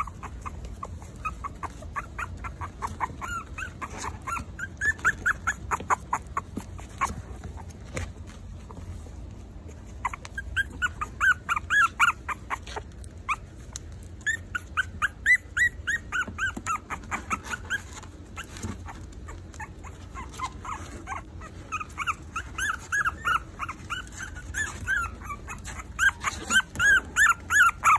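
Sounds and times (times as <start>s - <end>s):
puppies whimpering and squealing: 0.0s - 27.9s.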